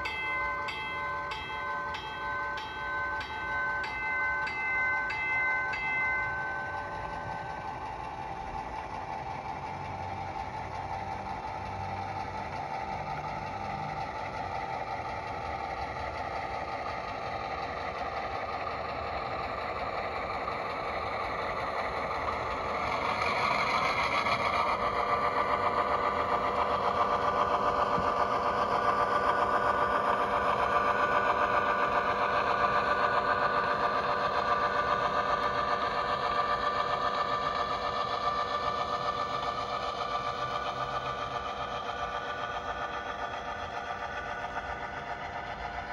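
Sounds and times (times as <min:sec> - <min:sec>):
model diesel locomotive engine sound: 0:00.0 - 0:45.9
steady whining tones: 0:00.0 - 0:45.9.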